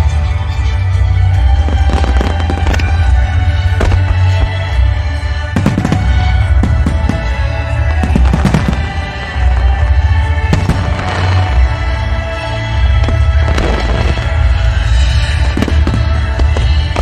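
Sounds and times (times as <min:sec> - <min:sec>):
music with heavy steady beat: 0:00.0 - 0:17.0
fireworks crackling: 0:00.9 - 0:17.0
fireworks bursting with bangs: 0:01.3 - 0:17.0.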